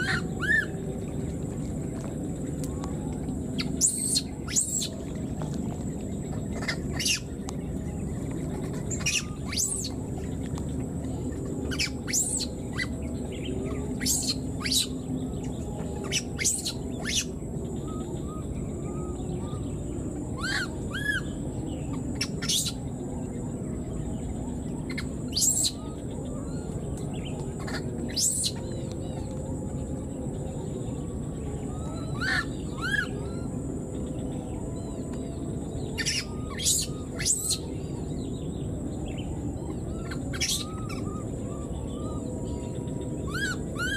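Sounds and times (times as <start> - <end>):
faint high whine: 0.0 - 43.9
low rumbling background: 0.0 - 43.9.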